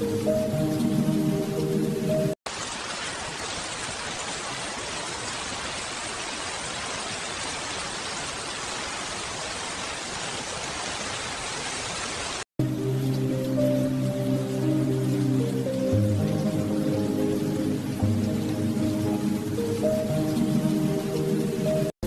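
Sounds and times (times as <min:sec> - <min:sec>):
steady rain: 0:00.0 - 0:21.9.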